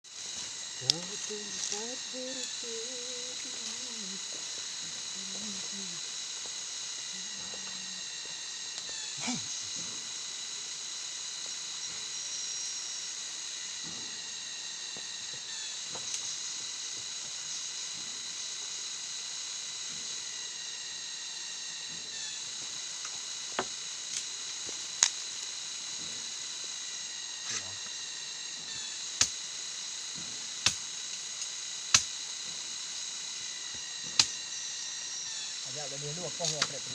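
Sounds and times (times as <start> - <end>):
forest insects chorus: 0.0 - 36.9.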